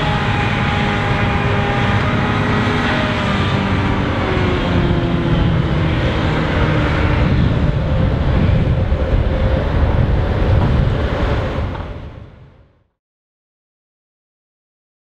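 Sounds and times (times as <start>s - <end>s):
truck diesel engine rumbling: 0.0s - 12.9s.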